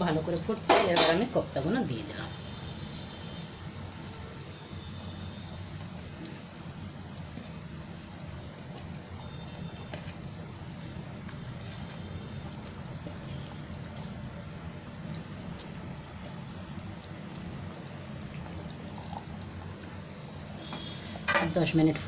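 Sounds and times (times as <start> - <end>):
gravy boiling in a pan: 0.0 - 22.0.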